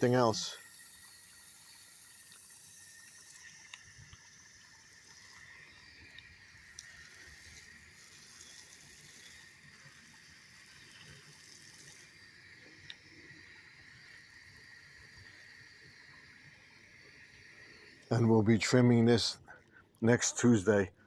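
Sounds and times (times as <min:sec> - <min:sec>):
faint outdoor background hiss: 0:00.0 - 0:21.0
small ticks: 0:00.6 - 0:18.2.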